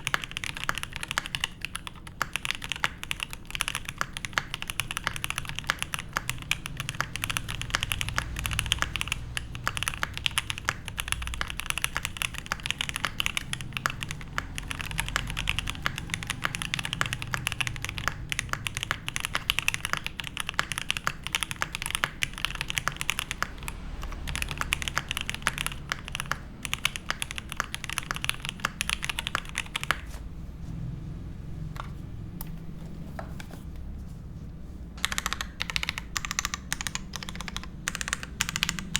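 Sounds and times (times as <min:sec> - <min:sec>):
mechanical keyboard typing: 0:00.0 - 0:30.2, 0:35.0 - 0:38.9.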